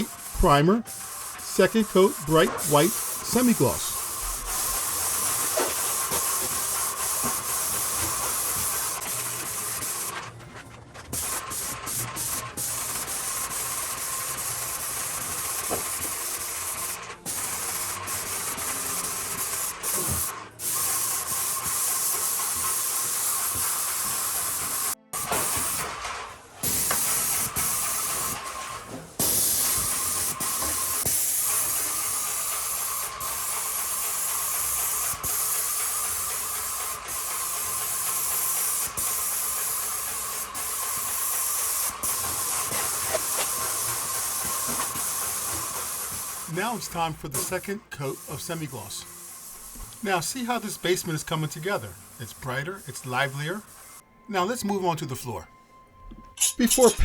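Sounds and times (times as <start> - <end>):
paint spraying hiss: 0.0 - 10.3, 11.1 - 54.0.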